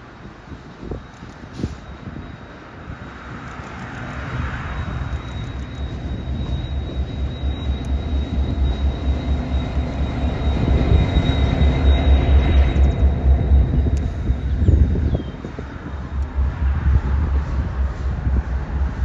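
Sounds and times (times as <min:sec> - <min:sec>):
diesel locomotive engine beat: 0:00.0 - 0:19.0.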